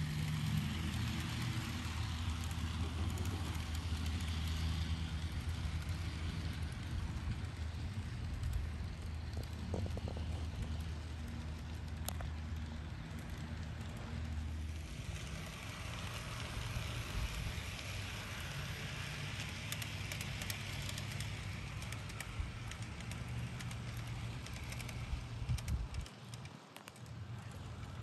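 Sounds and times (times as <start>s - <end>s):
model train rolling hiss: 0.0s - 26.2s
low uneven rumble: 0.0s - 28.0s
sharp clicks of train track: 0.0s - 28.0s.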